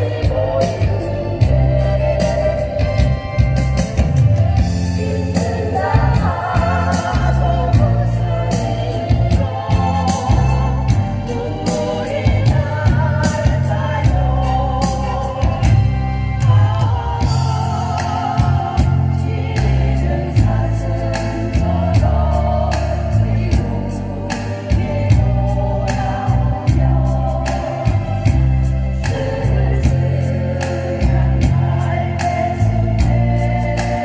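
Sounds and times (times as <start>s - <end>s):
instrumental accompaniment with beat: 0.0s - 34.0s
vocal ensemble singing: 0.0s - 34.0s.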